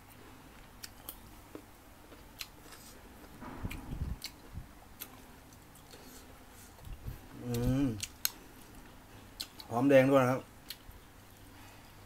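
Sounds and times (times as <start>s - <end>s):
man chewing crisp fruit: 0.1s - 9.8s, 10.6s - 12.0s.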